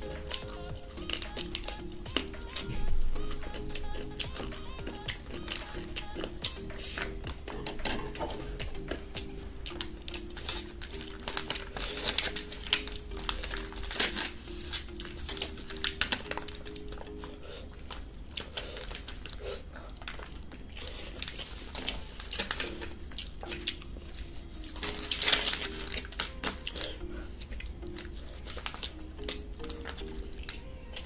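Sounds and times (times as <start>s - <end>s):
soft instrumental music: 0.0s - 18.2s, 21.8s - 31.0s
fingers mixing rice in foil: 0.0s - 31.0s
mouth chewing: 0.0s - 31.0s.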